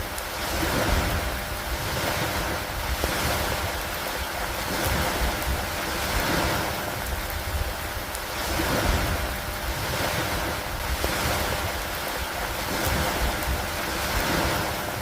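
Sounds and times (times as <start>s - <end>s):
low fluctuating rumble: 0.0s - 15.0s
steady rain falling: 0.0s - 15.0s.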